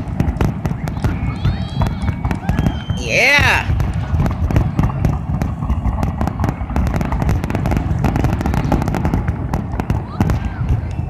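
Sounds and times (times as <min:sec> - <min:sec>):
fireworks booms and crackling bangs: 0:00.0 - 0:11.0.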